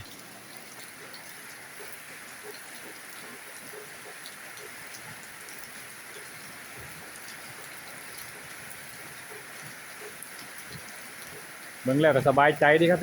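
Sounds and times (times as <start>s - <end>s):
raindrop ticks: 0.0s - 13.0s
steady rain hiss: 0.0s - 13.0s.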